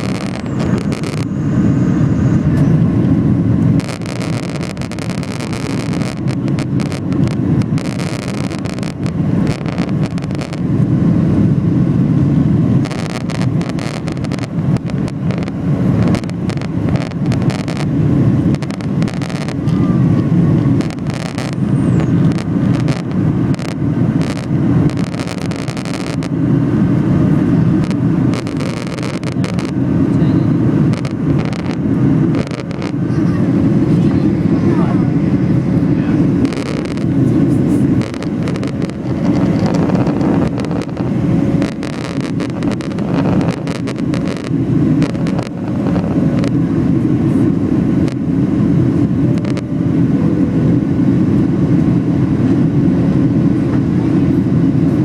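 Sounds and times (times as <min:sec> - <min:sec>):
jet engine cabin roar: 0:00.0 - 0:55.0.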